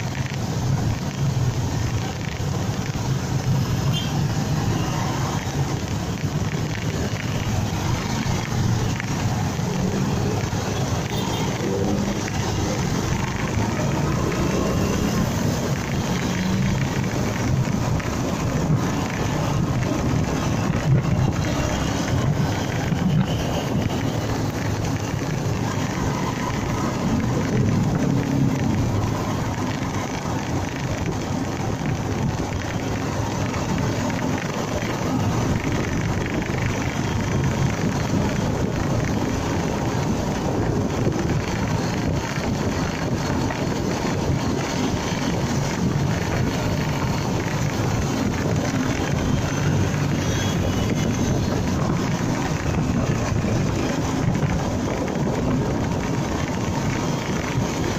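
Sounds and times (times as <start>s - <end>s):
motorcycle engine running: 0.0s - 57.9s
road noise: 0.0s - 57.9s
wind buffeting microphone: 0.0s - 57.9s.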